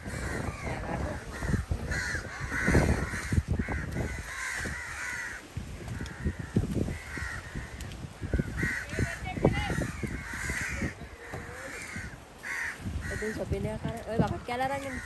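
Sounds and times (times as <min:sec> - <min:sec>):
crows cawing: 0:00.0 - 0:13.5, 0:14.7 - 0:15.0.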